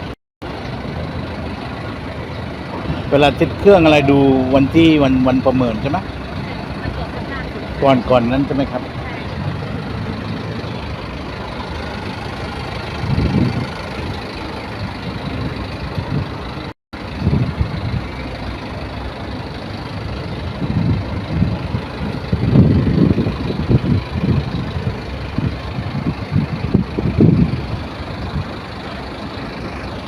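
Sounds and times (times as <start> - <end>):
engine running: 0.0 - 30.0
low rumbles: 0.0 - 30.0.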